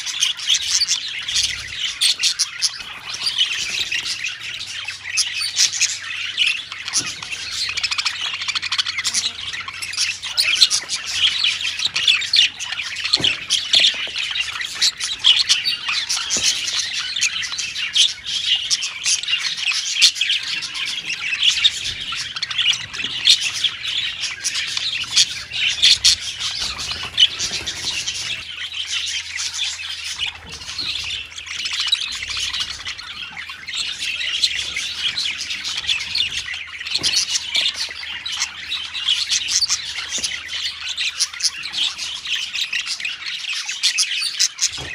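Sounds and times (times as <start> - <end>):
budgerigars chirping and squawking: 0.0 - 44.9.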